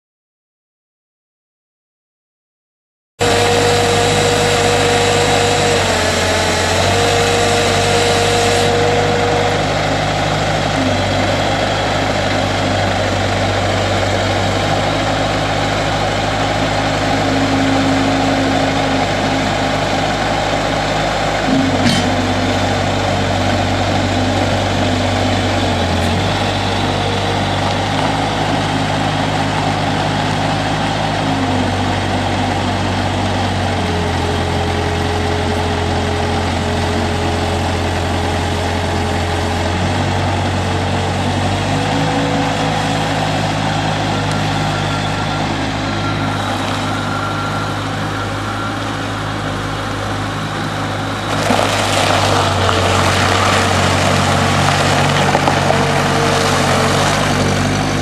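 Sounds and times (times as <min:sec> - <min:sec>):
diesel engine running: 0:03.2 - 0:58.0.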